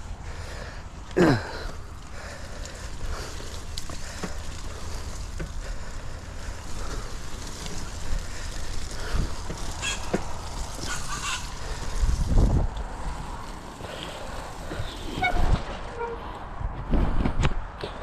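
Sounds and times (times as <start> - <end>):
bike knocks and rattles: 1.2 - 18.0
wind rumble on microphone: 1.8 - 18.0.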